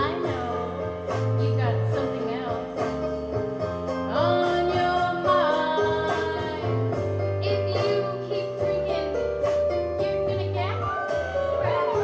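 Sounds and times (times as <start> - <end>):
backing track with beat: 0.0 - 12.0.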